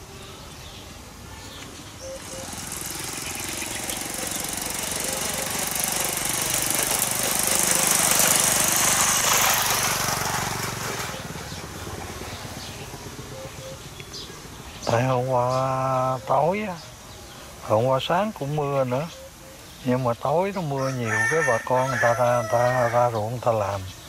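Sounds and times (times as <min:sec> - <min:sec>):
vehicle passing with rattling engine: 0:01.8 - 0:18.1, 0:20.5 - 0:24.0.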